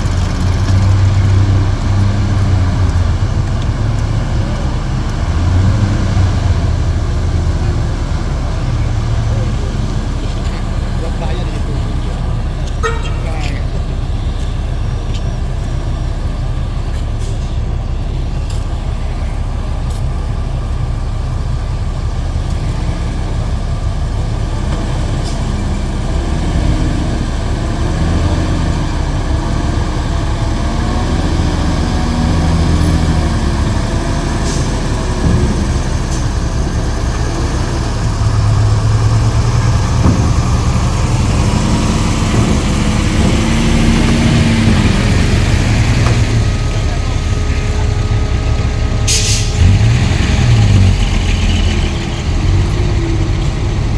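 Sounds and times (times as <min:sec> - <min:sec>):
constant low rumble: 0:00.0 - 0:53.9
diesel truck engines revving: 0:00.0 - 0:53.9.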